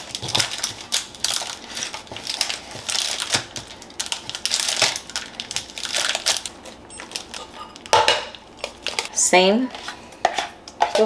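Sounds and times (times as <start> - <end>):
wrapper crinkling: 0.0 - 9.1.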